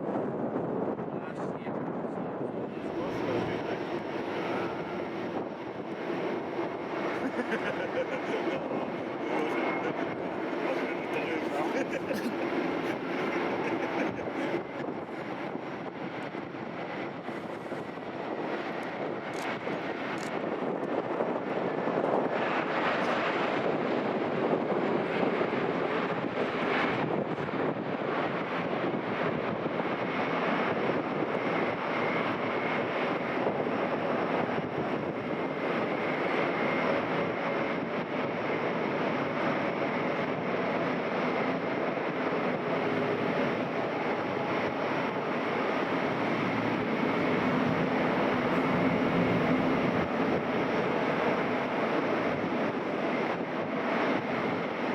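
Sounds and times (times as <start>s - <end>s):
jet engines running with whine: 0.0s - 54.9s.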